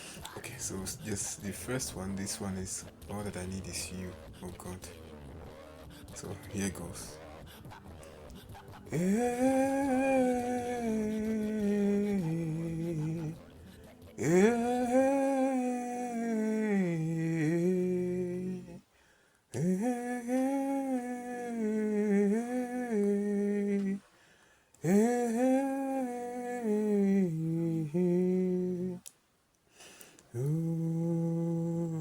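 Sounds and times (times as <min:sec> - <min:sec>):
person humming slow melody: 0:00.7 - 0:18.8, 0:19.5 - 0:24.0, 0:24.8 - 0:29.1, 0:30.3 - 0:32.0.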